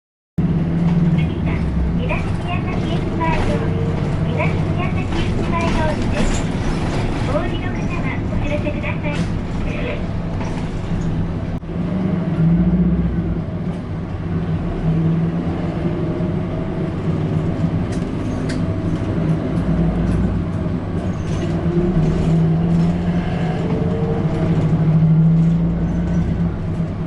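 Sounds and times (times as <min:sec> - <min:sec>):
bus engine hum: 0:00.4 - 0:27.0
road rumble: 0:00.4 - 0:27.0.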